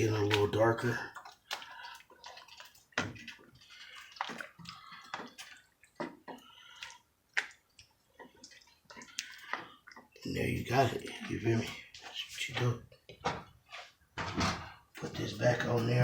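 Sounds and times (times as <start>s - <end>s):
broth bubbling in a pot: 0.0s - 16.0s.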